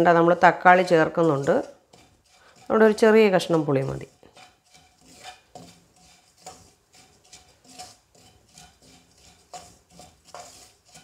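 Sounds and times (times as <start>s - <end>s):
wooden spatula scraping pan: 0.0s - 11.0s.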